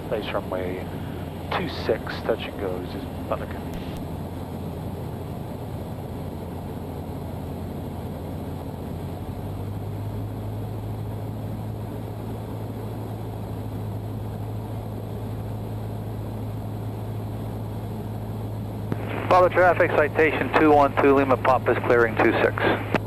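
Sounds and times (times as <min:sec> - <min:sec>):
airplane engine and propeller droning: 0:00.0 - 0:23.0.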